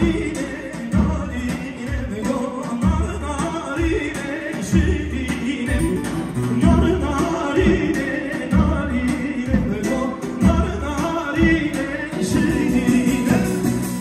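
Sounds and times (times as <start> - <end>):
amplified band playing dance music: 0.0 - 14.0
heavy drum beat: 0.0 - 14.0
person singing: 0.0 - 14.0.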